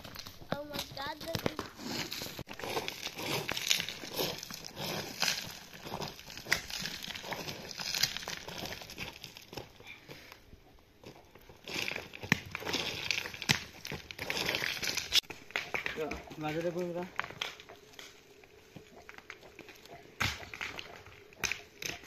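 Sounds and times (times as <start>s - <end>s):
dry leaves and stones crunching: 0.0s - 22.0s.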